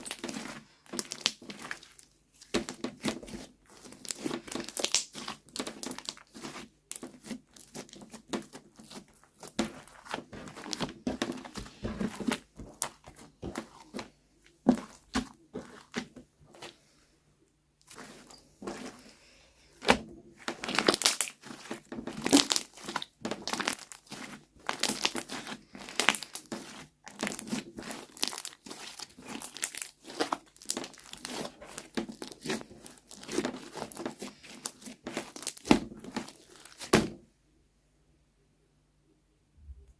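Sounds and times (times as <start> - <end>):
slime crinkling and crackling: 0.0 - 17.0, 17.8 - 37.2.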